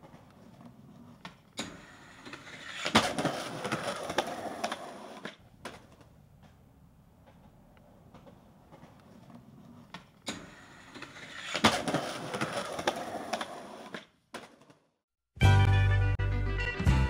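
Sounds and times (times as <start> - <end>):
skateboard clacks: 0.0 - 14.9
skateboard wheels rolling on concrete: 0.0 - 15.0.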